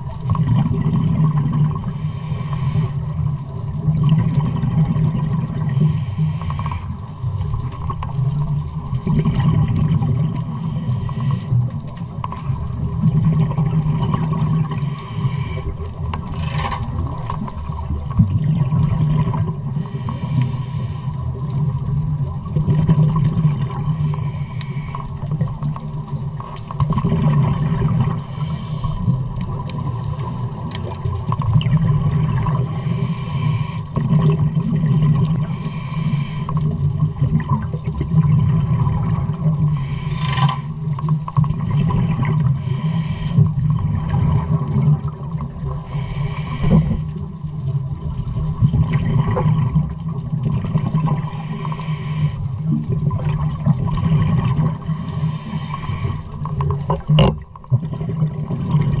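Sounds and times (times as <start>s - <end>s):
exhaled bubbles hissing underwater: 0.0s - 59.0s.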